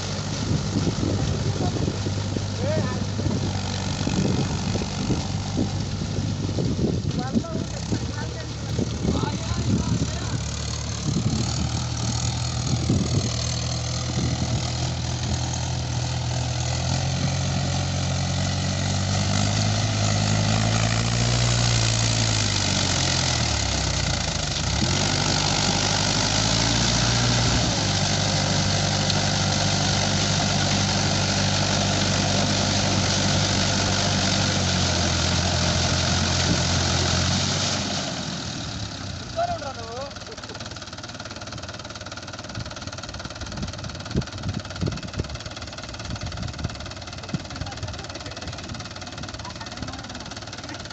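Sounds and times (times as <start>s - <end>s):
tractor engine revving: 0.0s - 50.9s.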